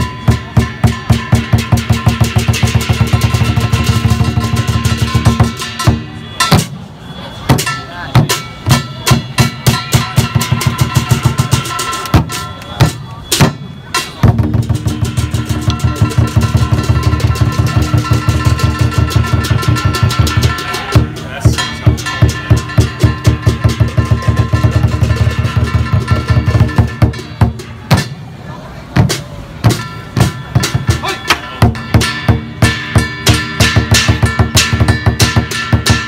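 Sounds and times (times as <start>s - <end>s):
large drum rolling and striking: 0.0s - 6.9s, 7.5s - 36.0s
cymbals clashing: 0.0s - 36.0s.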